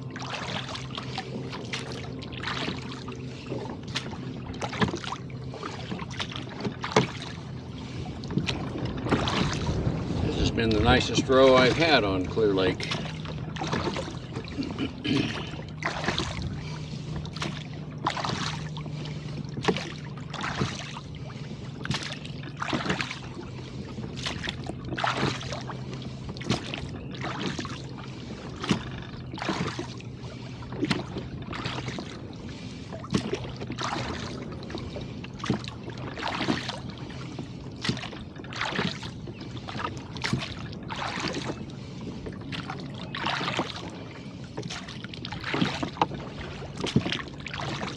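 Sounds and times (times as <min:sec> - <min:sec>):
oars splashing and knocking: 0:00.0 - 0:47.9
water washing along hull: 0:00.0 - 0:47.9.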